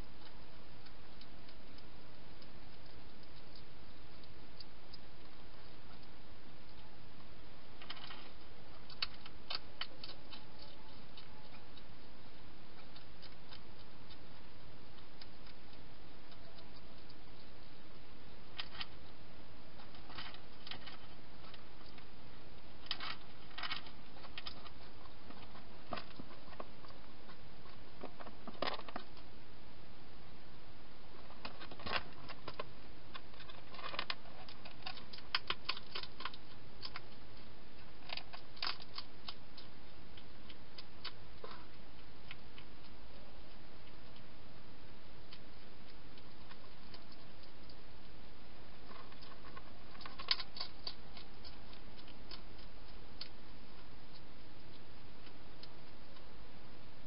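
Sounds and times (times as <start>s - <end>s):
hedgehog crunching dry food: 0.0s - 29.3s, 31.1s - 56.8s
steady hiss: 0.0s - 57.0s.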